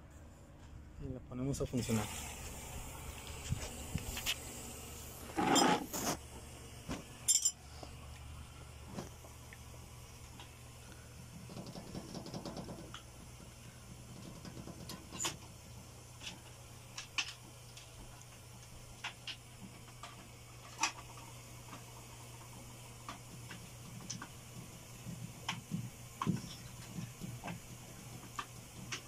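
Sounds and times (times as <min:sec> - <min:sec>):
washing machine hum: 0:00.0 - 0:29.0.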